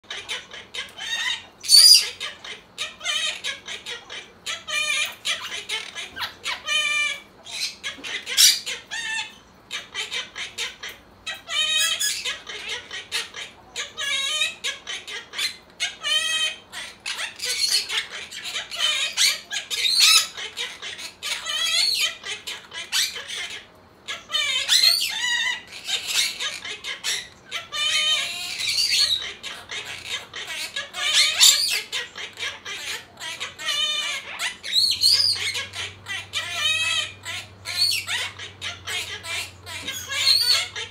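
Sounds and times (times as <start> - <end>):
parakeets warbling and squawking: 0.0 - 40.9.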